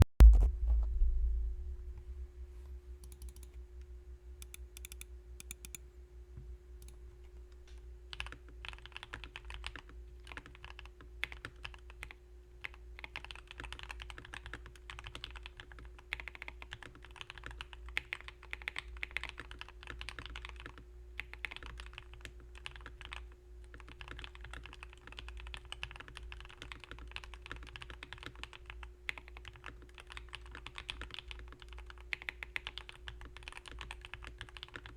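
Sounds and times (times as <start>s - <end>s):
faint steady hum: 0.3s - 34.9s
mechanical keyboard typing: 3.0s - 3.6s, 4.4s - 5.8s, 6.8s - 34.9s.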